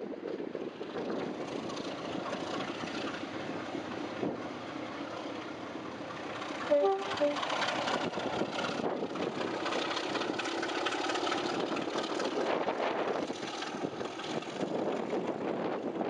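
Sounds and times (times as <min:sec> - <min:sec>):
diesel locomotive engine working: 0:00.0 - 0:16.0
train coaches rolling: 0:00.7 - 0:15.9.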